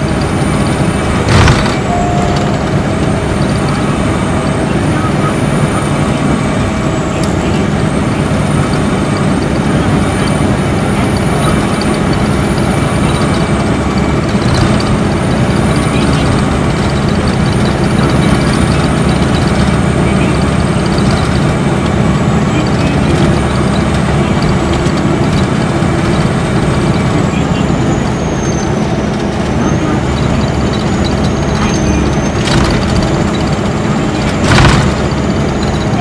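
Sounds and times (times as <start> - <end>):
bus engine drone: 0.0 - 36.0
high turbo whine: 0.0 - 36.0
road noise: 0.0 - 36.0.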